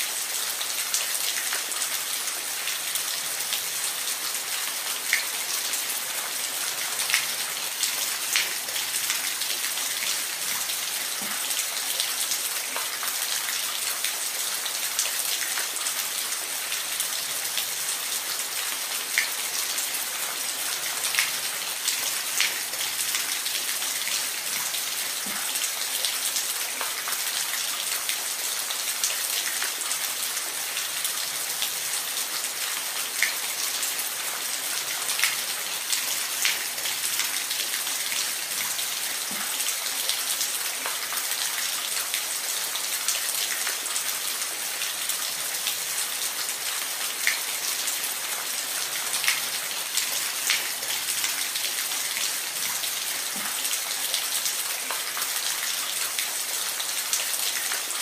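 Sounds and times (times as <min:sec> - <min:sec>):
water drips and splashes: 0:00.0 - 0:58.0.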